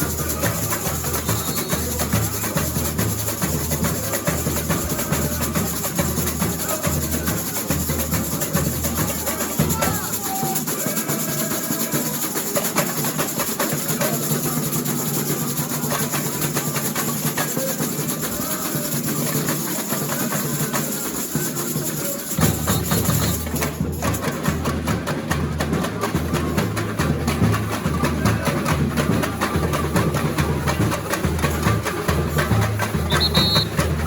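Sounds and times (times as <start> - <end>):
samba drum section playing: 0.0 - 34.0.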